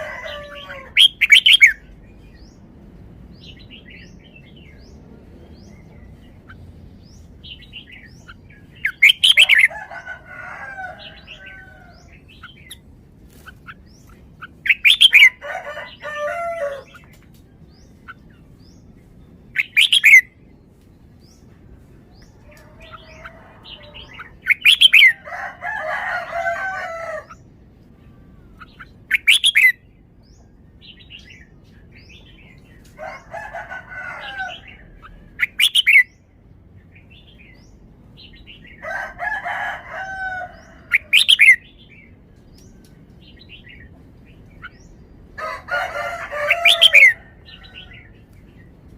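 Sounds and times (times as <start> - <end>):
bird singing: 0.0 - 2.7, 3.4 - 21.6, 22.2 - 38.9, 40.1 - 48.8.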